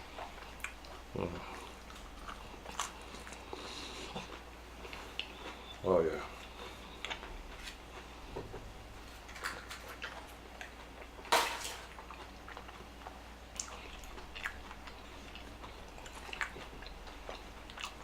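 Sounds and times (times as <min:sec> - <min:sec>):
close chewing with mouth clicks: 0:00.0 - 0:08.4, 0:09.2 - 0:11.3, 0:11.9 - 0:18.0.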